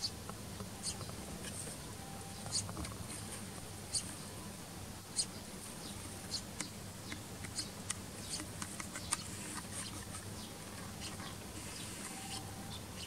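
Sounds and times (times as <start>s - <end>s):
faint low hum: 0.0s - 13.0s
sparrow chirping: 0.0s - 13.0s.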